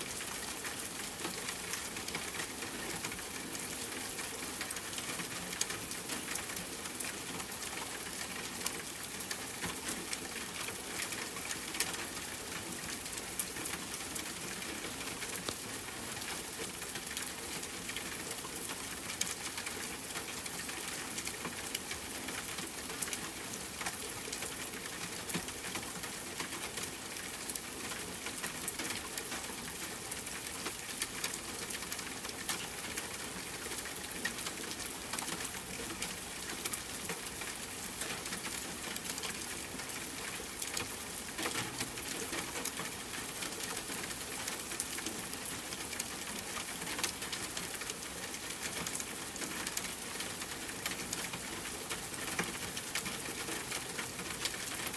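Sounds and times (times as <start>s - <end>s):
rain drops ticking on hard surface: 0.0s - 54.9s.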